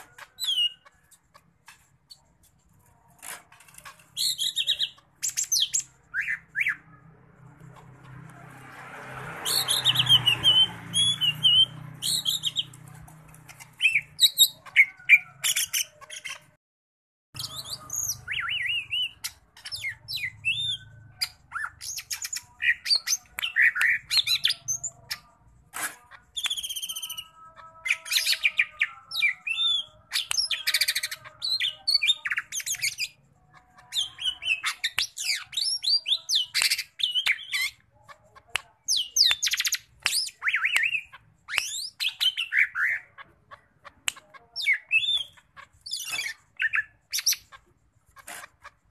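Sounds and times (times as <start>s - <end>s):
songbird singing chirps and whistles: 0.0s - 2.6s, 3.2s - 8.3s, 9.4s - 12.8s, 17.4s - 48.9s.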